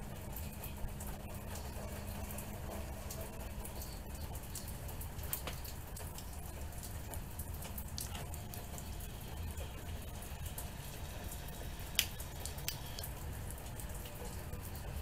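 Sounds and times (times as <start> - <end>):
rain drops ticking: 0.0 - 15.0
sharp drip: 0.3 - 14.8.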